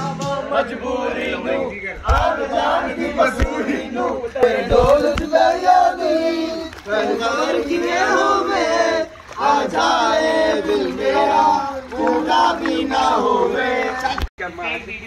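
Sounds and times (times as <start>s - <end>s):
men singing in unison: 0.0s - 14.3s.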